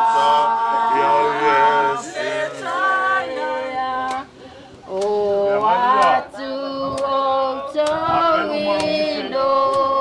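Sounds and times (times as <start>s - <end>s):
men and women singing: 0.0s - 10.0s.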